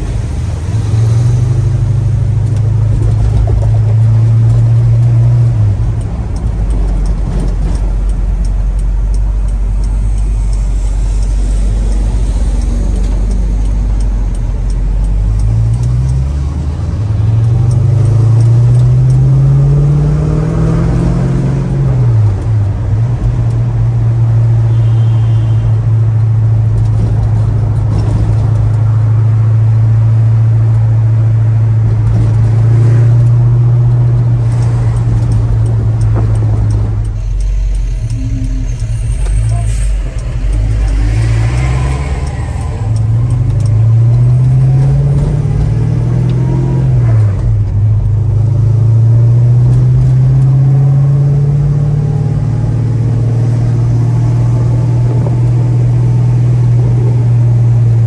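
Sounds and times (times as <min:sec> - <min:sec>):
car engine running and revving: 0:00.0 - 0:58.0.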